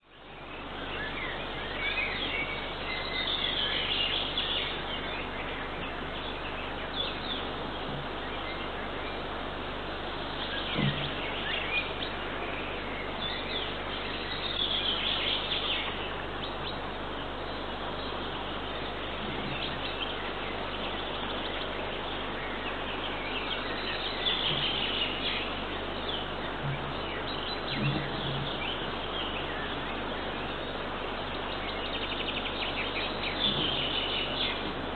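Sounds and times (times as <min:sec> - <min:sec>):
small birds chirping: 0:00.0 - 0:34.9
steady background hiss: 0:00.0 - 0:34.9.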